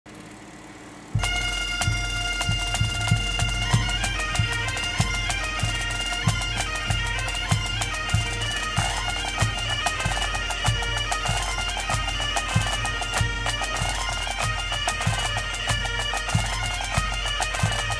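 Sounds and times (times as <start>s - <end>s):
bagpipe drone: 1.1s - 17.9s
bagpipe chanter melody: 1.2s - 17.9s
regular drum beat: 1.2s - 17.9s.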